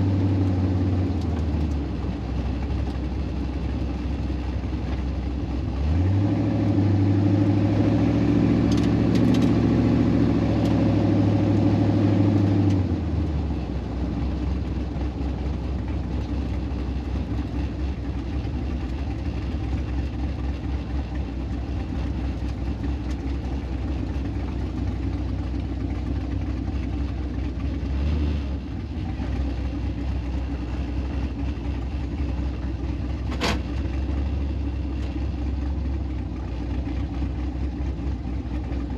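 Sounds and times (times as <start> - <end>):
car engines idling: 0.0 - 38.9
louder engine steady pitch: 0.0 - 38.9.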